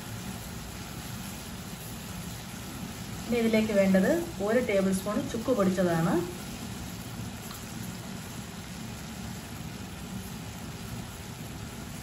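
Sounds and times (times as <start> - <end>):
water boiling in a saucepan: 0.0 - 12.0.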